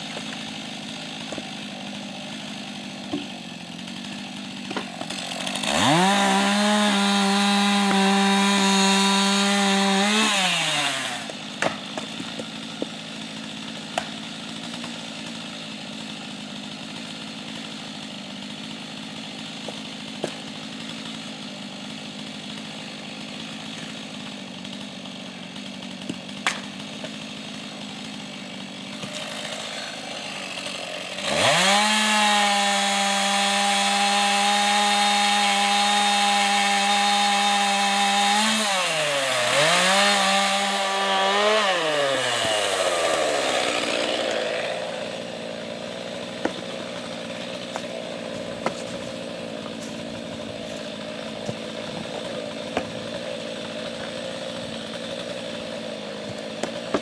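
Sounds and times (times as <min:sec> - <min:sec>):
axe splitting firewood: 0:00.0 - 0:57.0
chainsaw cutting logs: 0:00.0 - 0:57.0.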